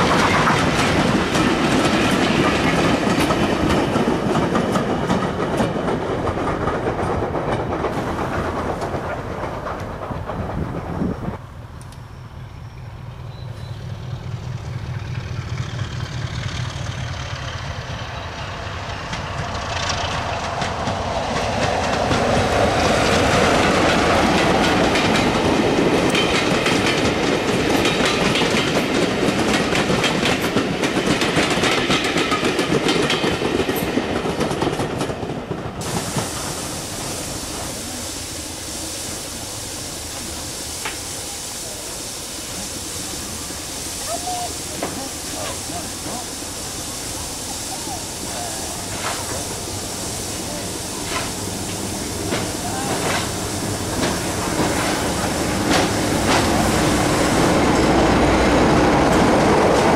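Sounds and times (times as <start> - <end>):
train wheels clicking over rail joints: 0.0 - 41.8, 42.4 - 59.9
steam locomotive hissing: 0.0 - 59.9.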